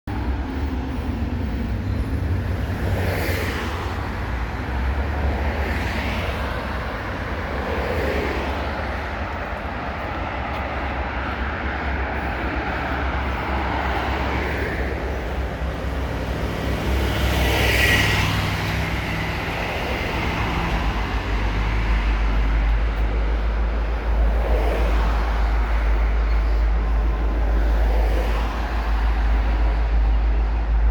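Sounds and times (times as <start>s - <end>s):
diesel train rumbling on bridge: 0.1s - 30.9s
road traffic swishing past: 0.1s - 30.9s.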